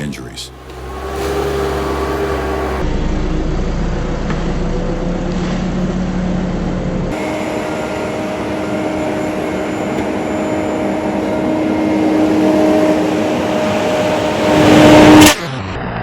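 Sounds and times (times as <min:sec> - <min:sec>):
engine-driven machinery whining: 0:00.0 - 0:16.0.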